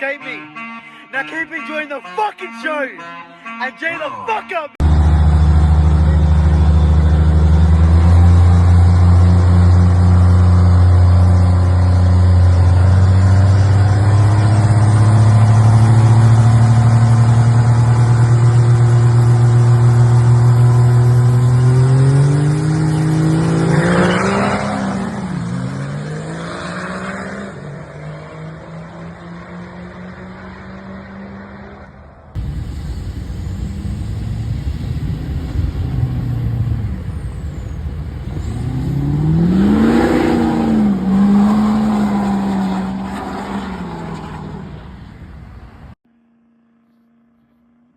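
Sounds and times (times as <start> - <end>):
diesel truck engine revving: 4.8 - 31.8, 32.4 - 46.0.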